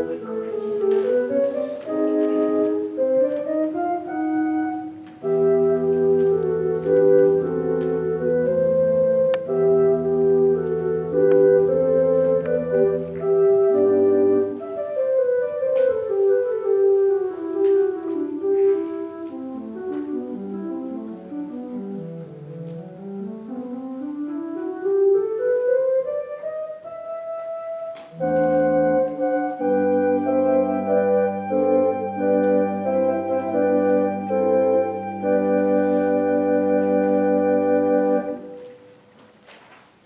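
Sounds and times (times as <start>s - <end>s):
organ music: 0.0s - 39.1s.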